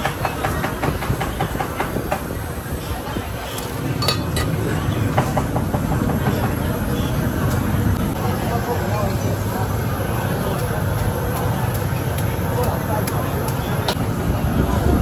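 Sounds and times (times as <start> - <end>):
restaurant din: 0.0 - 15.0.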